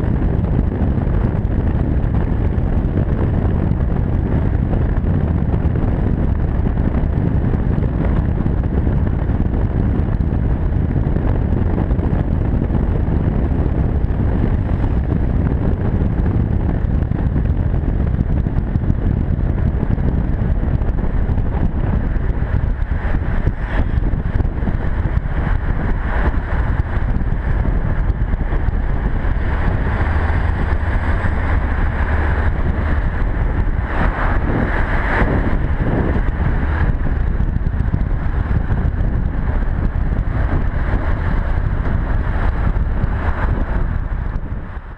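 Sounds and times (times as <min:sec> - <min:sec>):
motorcycle engine rumble: 0:00.0 - 0:44.9
wind rushing over microphone: 0:00.0 - 0:44.9.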